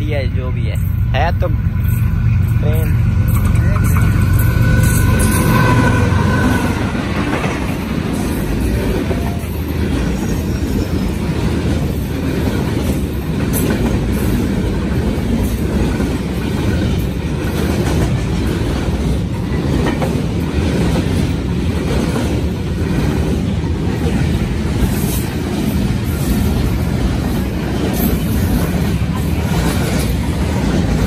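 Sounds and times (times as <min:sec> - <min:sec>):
train wheels rumbling on rails: 0:00.0 - 0:31.0
wheels clacking on rail joints: 0:00.0 - 0:31.0.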